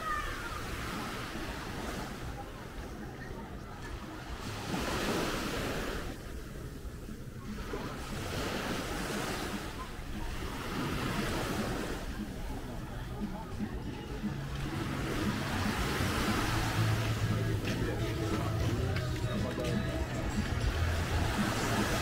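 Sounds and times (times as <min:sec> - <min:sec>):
sea waves washing onto beach: 0:00.0 - 0:22.0.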